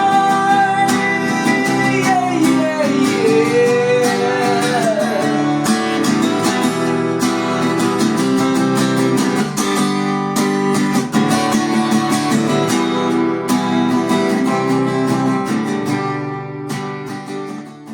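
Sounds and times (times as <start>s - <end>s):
acoustic guitar strumming: 0.0s - 17.9s.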